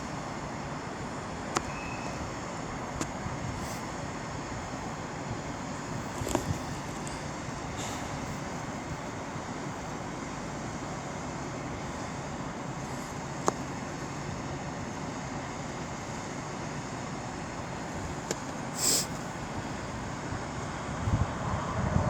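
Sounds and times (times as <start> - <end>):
low rumble of background noise: 0.0 - 22.0.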